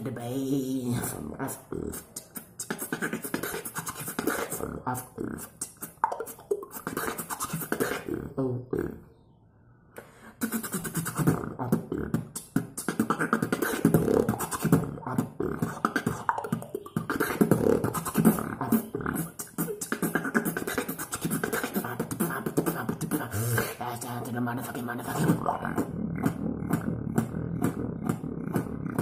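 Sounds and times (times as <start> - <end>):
person beatboxing: 0.0 - 9.0, 10.2 - 29.0.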